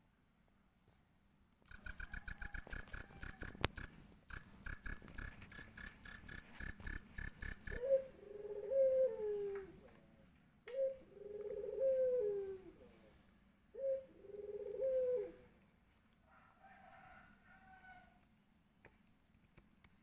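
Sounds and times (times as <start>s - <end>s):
cricket chirping: 1.7s - 18.0s.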